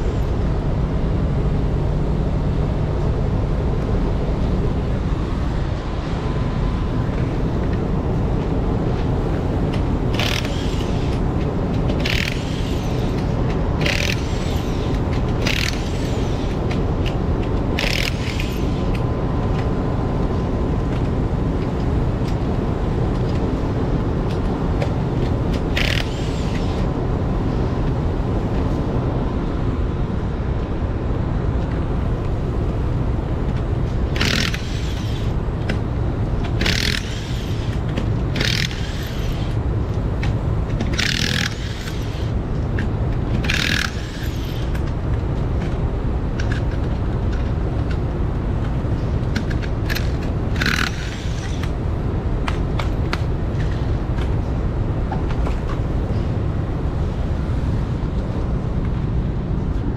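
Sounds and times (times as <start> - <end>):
road noise: 0.0 - 59.9
vehicle engine rumble: 0.0 - 59.9.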